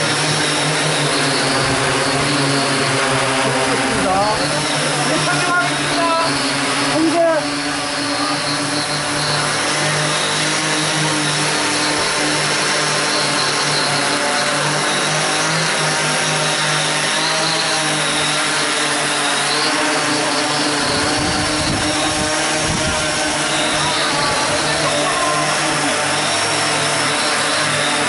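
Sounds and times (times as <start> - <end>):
drone propellers humming: 0.0 - 28.0.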